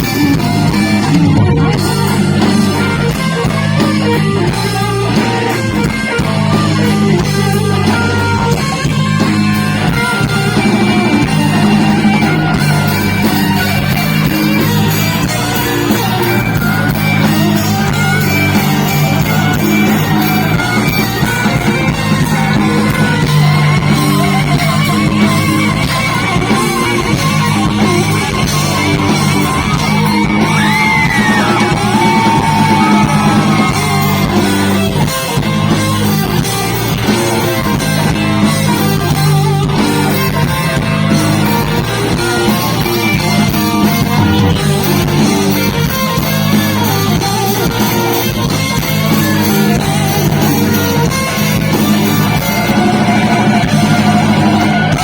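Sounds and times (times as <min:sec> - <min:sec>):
bass and drums: 0:00.0 - 0:55.0
electric guitar solo: 0:00.0 - 0:55.0.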